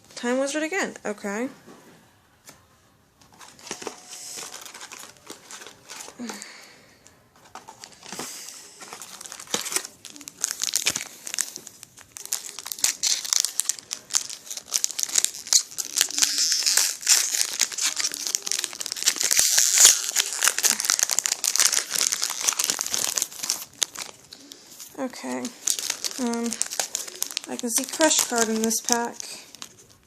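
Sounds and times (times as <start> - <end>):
foil wrapper crinkling and tearing: 3.4 - 6.6, 7.5 - 30.0.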